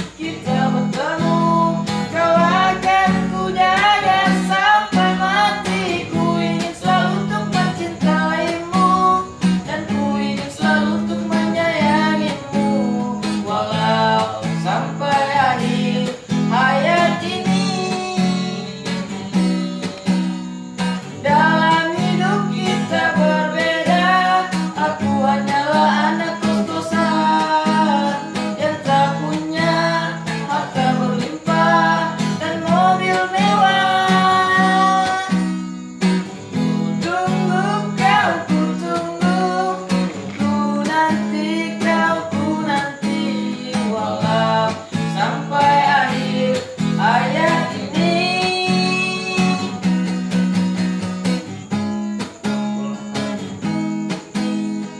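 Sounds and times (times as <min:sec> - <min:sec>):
person singing: 0:00.0 - 0:35.7, 0:37.0 - 0:50.1
strummed acoustic guitar: 0:00.0 - 0:54.9.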